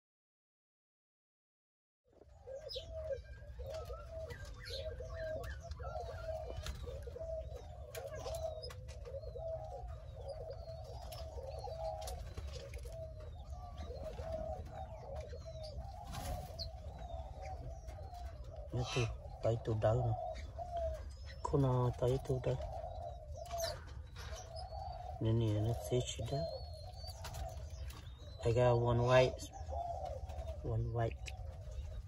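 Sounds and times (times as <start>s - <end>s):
doves cooing: 2.1s - 32.0s
small birds chirping: 2.1s - 32.0s.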